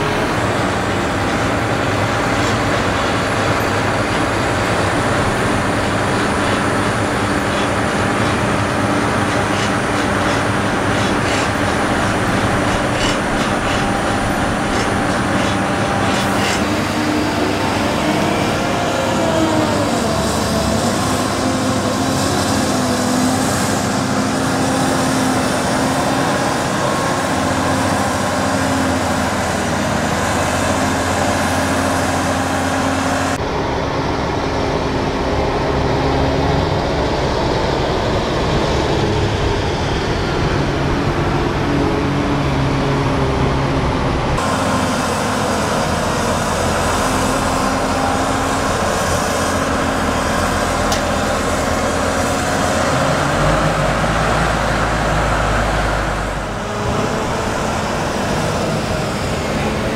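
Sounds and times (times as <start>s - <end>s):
heavy diesel engine under load: 0.0s - 59.9s.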